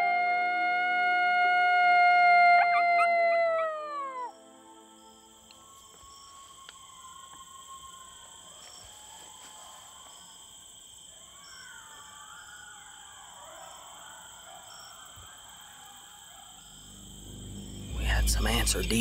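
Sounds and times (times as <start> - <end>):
distant coyotes howling and yipping: 0.0 - 18.9
crickets and night insects droning: 0.0 - 19.0.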